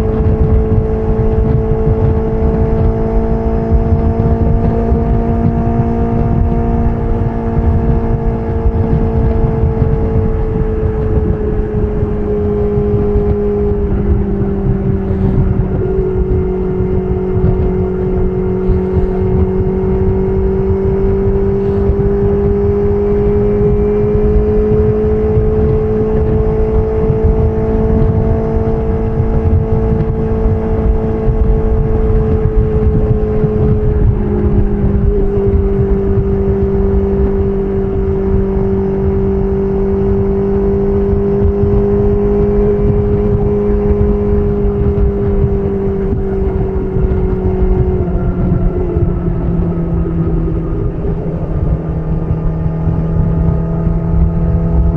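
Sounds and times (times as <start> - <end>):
low rushing noise: 0.0 - 54.9
motorcycle engine while riding: 0.0 - 54.9.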